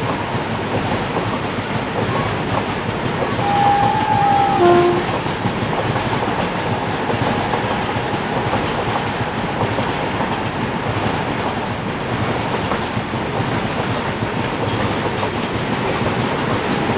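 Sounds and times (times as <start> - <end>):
freight train wheels clattering: 0.0 - 16.9.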